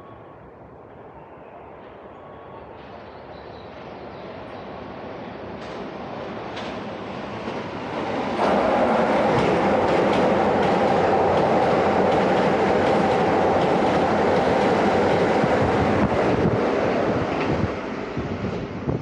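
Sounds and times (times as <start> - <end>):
train wheels rumbling on rail: 1.8 - 19.0.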